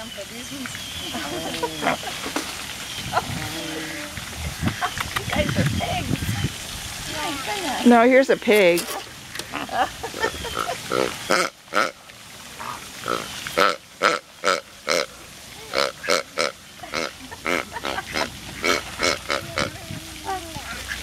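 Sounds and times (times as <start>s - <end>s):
flamingos honking: 0.0s - 8.0s, 8.9s - 12.0s, 12.6s - 21.0s.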